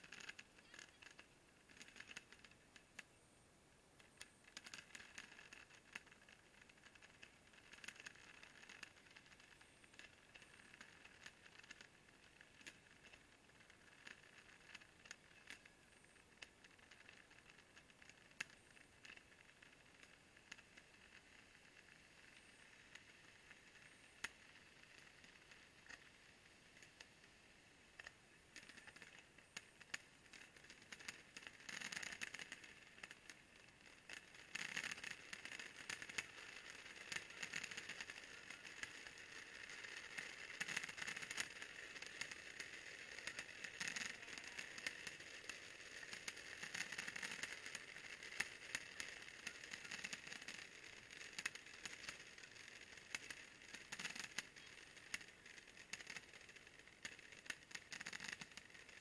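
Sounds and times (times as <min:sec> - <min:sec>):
fireworks crackling: 0:00.0 - 0:03.1, 0:04.0 - 0:59.0.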